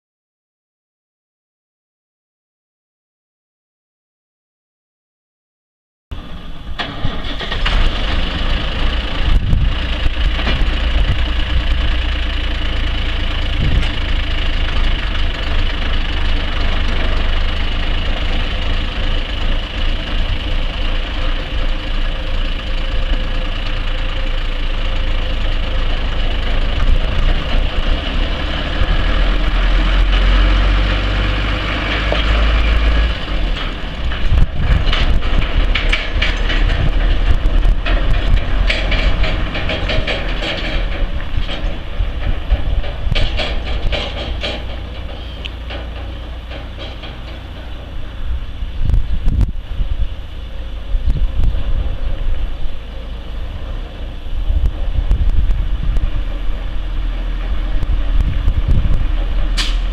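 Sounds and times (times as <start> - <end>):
truck driving off: 6.1 - 59.9
diesel truck engine idling: 6.2 - 59.9.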